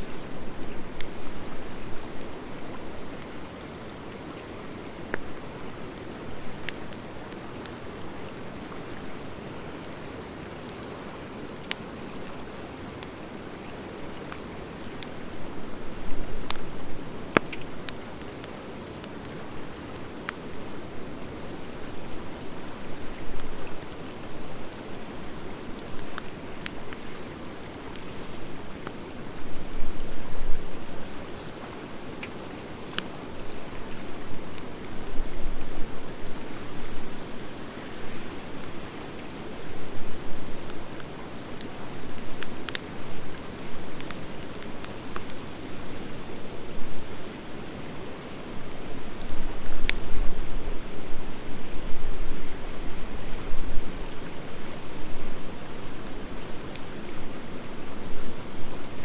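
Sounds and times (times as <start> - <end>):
wood fire crackling and popping: 0.0 - 50.6, 53.2 - 59.0.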